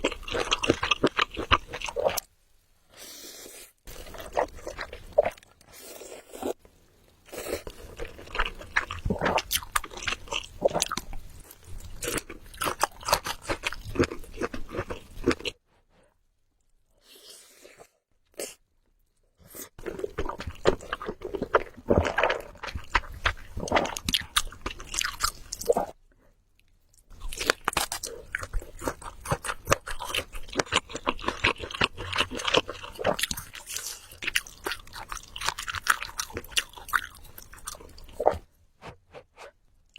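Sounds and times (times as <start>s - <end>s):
person chewing noodles: 0.0s - 2.2s, 3.5s - 15.6s, 19.5s - 26.0s, 26.9s - 39.9s.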